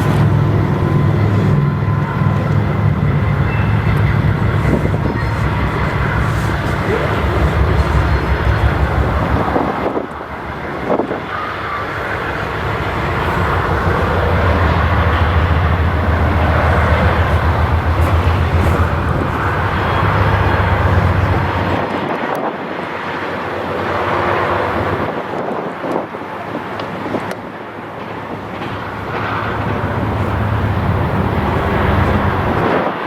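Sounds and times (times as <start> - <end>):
freight train rumbling past: 0.0 - 33.0.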